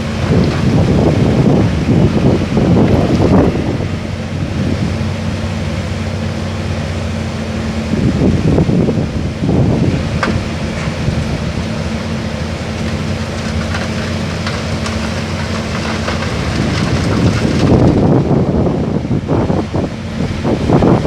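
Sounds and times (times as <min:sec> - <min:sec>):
excavator diesel engine humming: 0:00.0 - 0:21.0.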